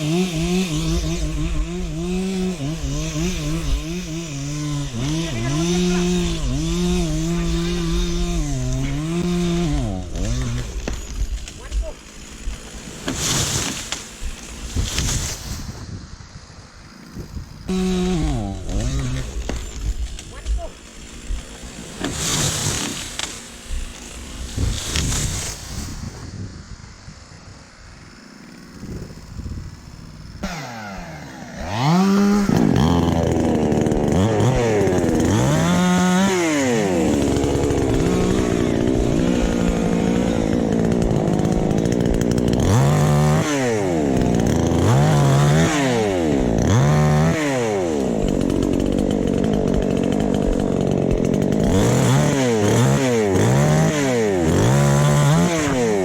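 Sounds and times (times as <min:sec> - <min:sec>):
chainsaw engine revving: 0:00.0 - 0:15.8, 0:16.8 - 0:26.3, 0:27.2 - 0:56.0.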